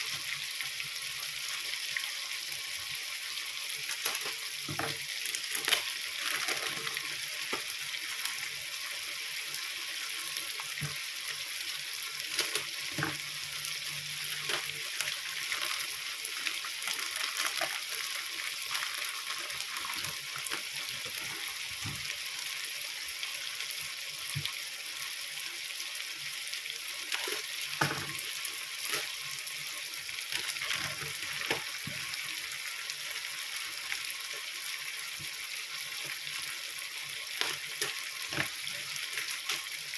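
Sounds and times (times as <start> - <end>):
food sizzling in a hot pan: 0.0 - 39.9.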